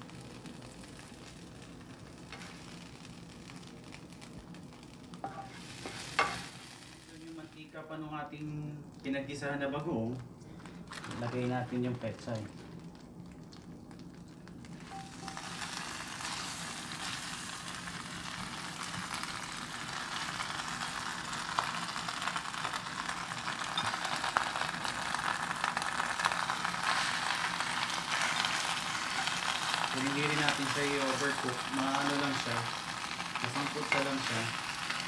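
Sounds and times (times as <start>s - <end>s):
leaves sizzling in hot oil: 0.0s - 9.4s, 14.0s - 35.0s.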